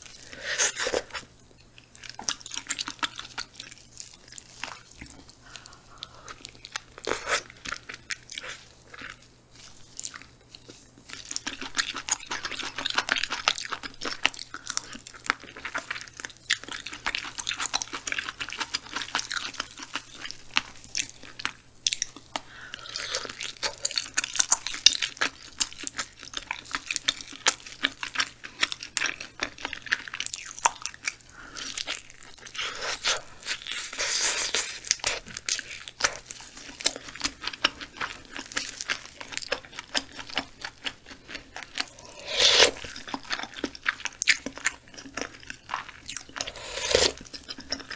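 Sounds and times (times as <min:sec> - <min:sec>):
close chewing and crunching: 0:00.0 - 0:47.9.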